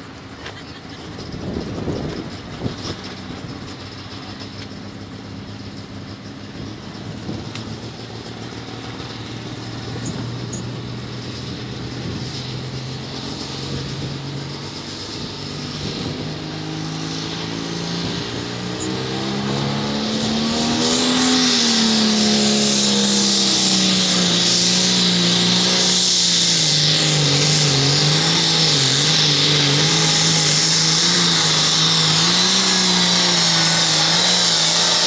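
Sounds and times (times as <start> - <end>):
diesel tractor engine under load: 0.0 - 35.0.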